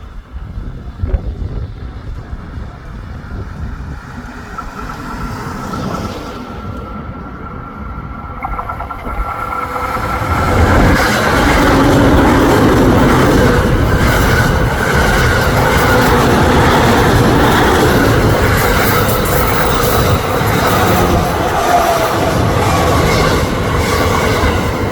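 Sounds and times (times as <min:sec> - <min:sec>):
electric train passing: 0:00.0 - 0:24.9
wheels clacking over rail joints: 0:03.3 - 0:24.9.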